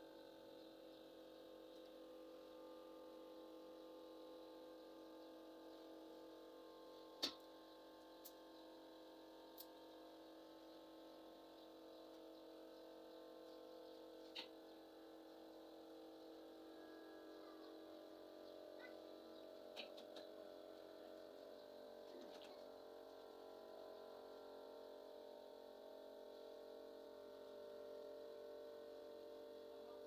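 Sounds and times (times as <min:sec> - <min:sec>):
faint machine hum: 0:00.0 - 0:30.0.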